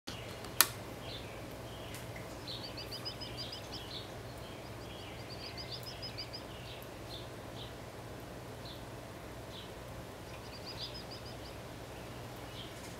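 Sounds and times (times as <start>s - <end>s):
low steady hum: 0.1s - 12.9s
songbirds chirping: 0.1s - 12.9s.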